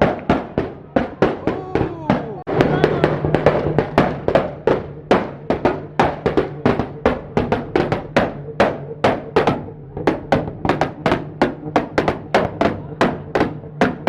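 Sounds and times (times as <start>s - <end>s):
sharp bangs and pops: 0.0s - 14.0s.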